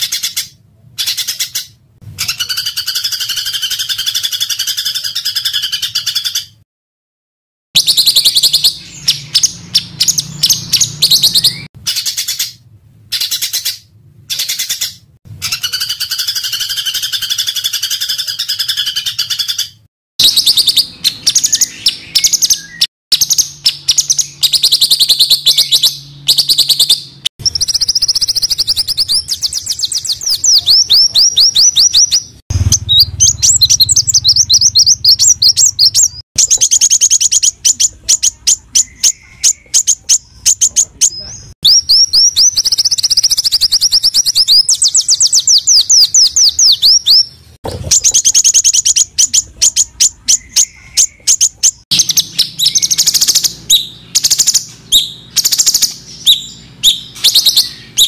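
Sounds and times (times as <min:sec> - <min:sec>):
songbirds trilling and chattering: 0:00.0 - 0:06.6, 0:07.8 - 0:58.0.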